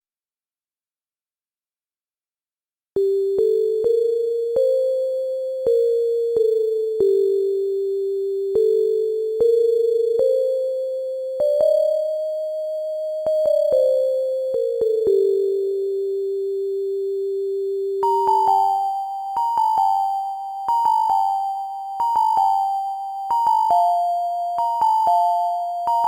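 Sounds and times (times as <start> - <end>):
sine tone melody: 3.0 - 26.0.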